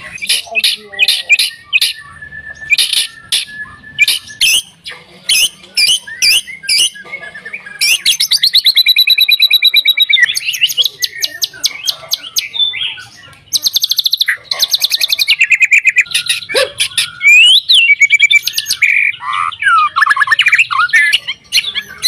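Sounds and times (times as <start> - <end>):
bird singing whistled notes: 0.0 - 22.0.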